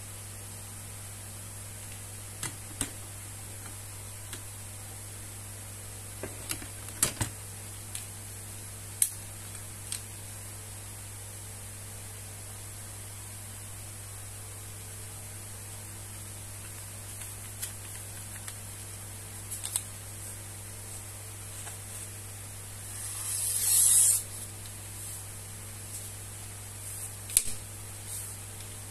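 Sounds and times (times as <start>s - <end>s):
steady hum and hiss: 0.0s - 28.9s.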